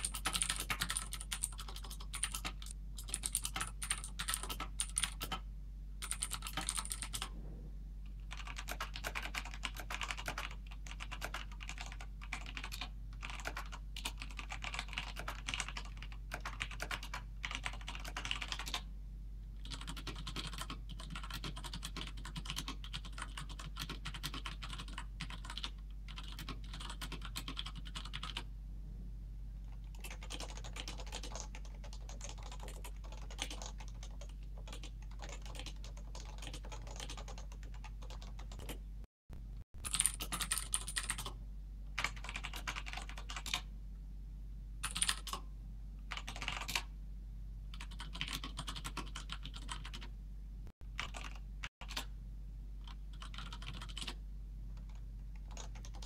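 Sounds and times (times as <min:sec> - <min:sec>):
fast typing on mechanical keyboards: 0:00.0 - 0:05.4, 0:06.0 - 0:07.3, 0:08.2 - 0:18.9, 0:19.6 - 0:28.5, 0:29.7 - 0:38.8, 0:39.8 - 0:41.4, 0:42.0 - 0:43.7, 0:44.8 - 0:45.4, 0:46.1 - 0:46.9, 0:47.7 - 0:50.1, 0:50.8 - 0:52.1, 0:52.8 - 0:54.2, 0:54.8 - 0:56.0.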